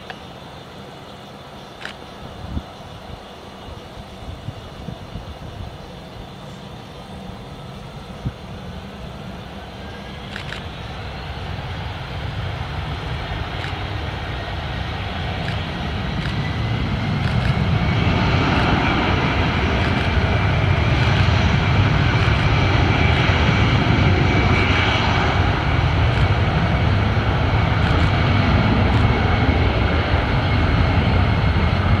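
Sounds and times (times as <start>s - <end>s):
jet engines spooling up: 0.0s - 32.0s.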